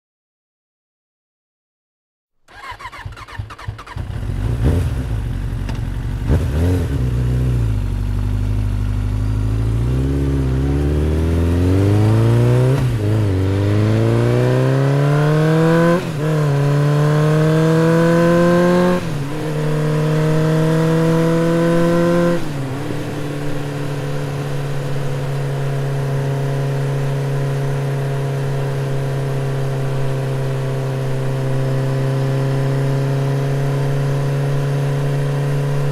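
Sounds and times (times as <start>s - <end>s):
motorcycle engine accelerating: 2.5s - 35.9s.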